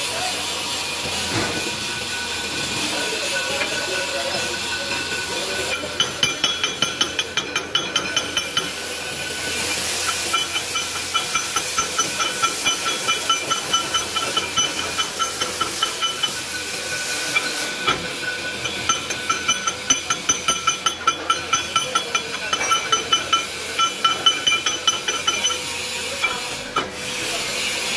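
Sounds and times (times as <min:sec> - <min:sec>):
hammer striking steel: 0:01.1 - 0:27.0.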